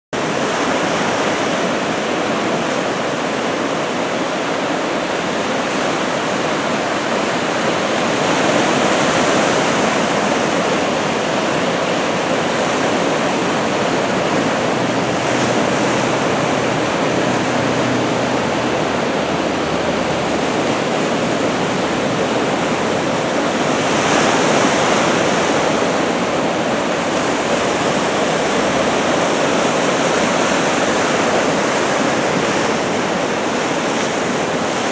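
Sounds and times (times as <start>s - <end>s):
ocean waves breaking: 0.2s - 34.9s.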